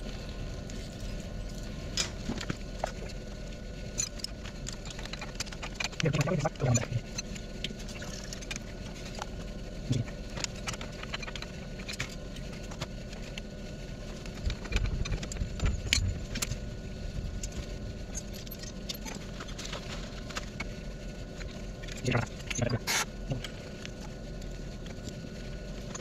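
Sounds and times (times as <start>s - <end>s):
boiler room plant humming: 0.0s - 26.0s.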